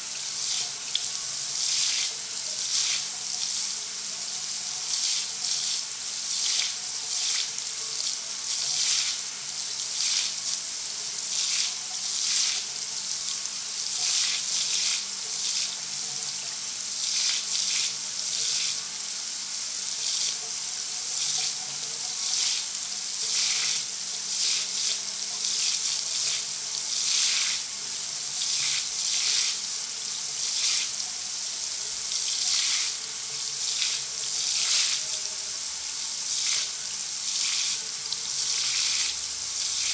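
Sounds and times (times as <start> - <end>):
shower spray running: 0.0 - 39.9.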